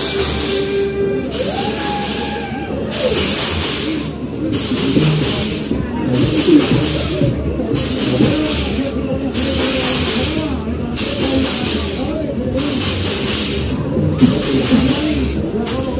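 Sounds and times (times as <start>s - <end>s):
loud fairground music: 0.0s - 15.9s.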